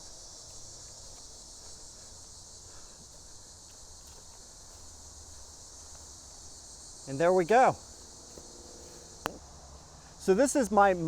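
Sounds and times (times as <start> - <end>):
faint ticks and rustles: 0.0 - 10.6
crickets chirping: 0.0 - 11.0.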